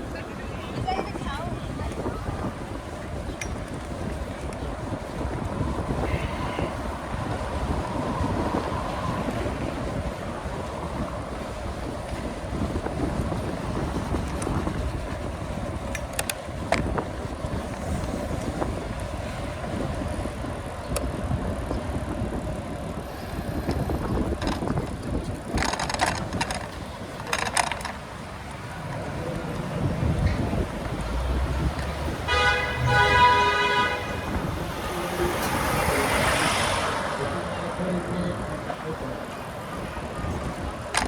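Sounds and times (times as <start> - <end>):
low road rumble: 0.0 - 41.0
wind buffeting microphone: 0.0 - 41.0.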